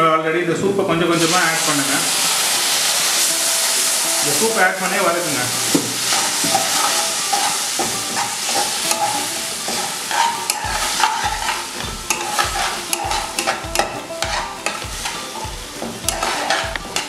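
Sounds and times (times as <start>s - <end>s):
onions sizzling in a pan: 0.7s - 17.0s
spatula scraping a pan: 1.2s - 17.0s.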